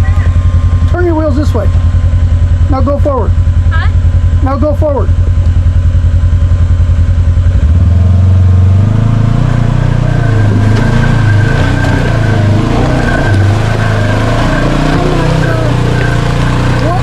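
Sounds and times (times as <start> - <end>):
utility vehicle engine idling and revving: 0.0 - 17.0.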